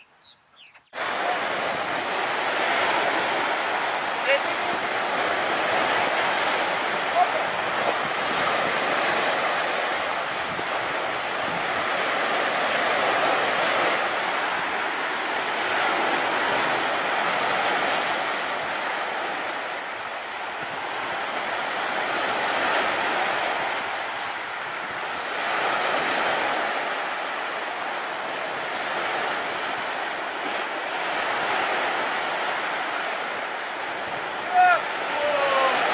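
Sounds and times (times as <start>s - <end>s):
waves breaking on pebble beach: 1.0s - 35.9s.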